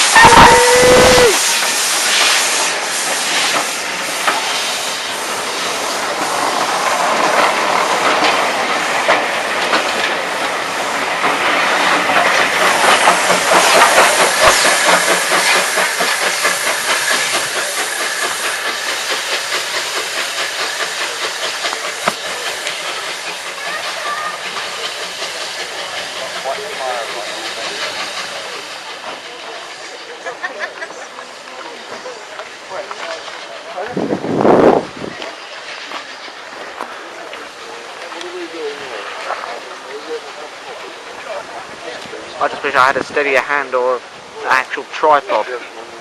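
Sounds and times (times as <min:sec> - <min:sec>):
steam locomotive hissing: 0:00.0 - 0:46.0.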